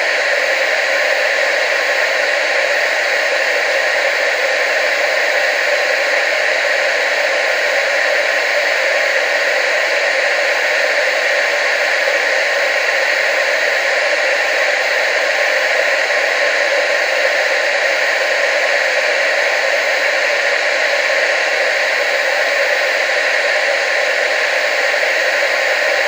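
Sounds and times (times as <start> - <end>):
television static hiss: 0.0 - 26.0.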